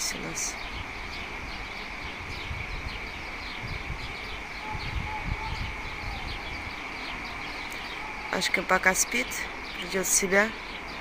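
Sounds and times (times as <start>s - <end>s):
small birds chirping: 0.0s - 11.0s
street traffic rumble: 0.0s - 11.0s.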